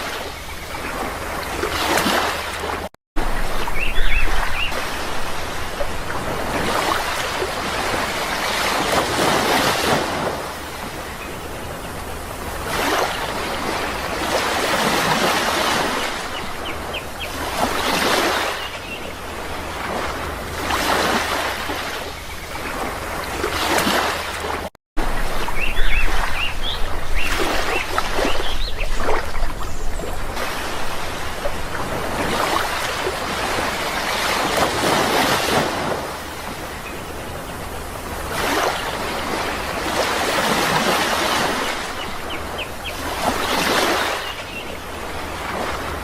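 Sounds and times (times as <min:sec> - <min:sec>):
sea waves washing: 0:00.0 - 0:46.0.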